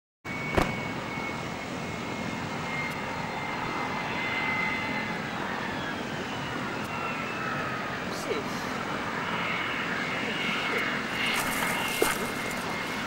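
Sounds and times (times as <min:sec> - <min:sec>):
jet airliner rumble and whine: 0:00.3 - 0:13.0.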